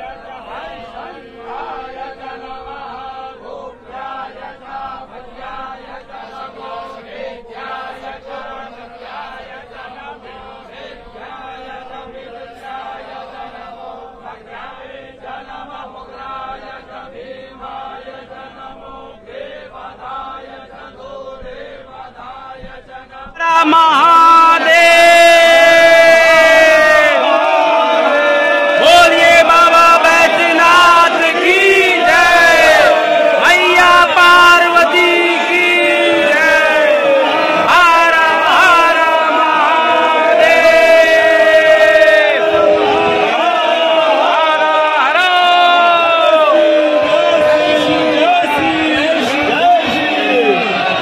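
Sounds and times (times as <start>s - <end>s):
loud held voices: 0.0s - 51.0s
men chanting in unison: 0.0s - 51.0s.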